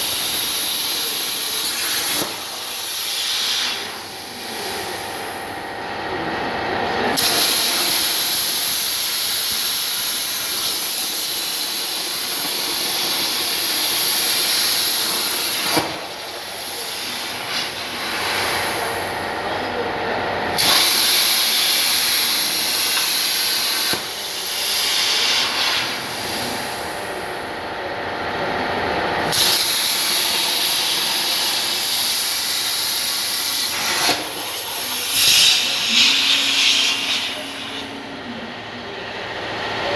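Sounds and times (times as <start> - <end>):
plasma torch hissing: 0.0 - 5.6, 7.2 - 19.2, 20.6 - 27.2, 29.3 - 38.0.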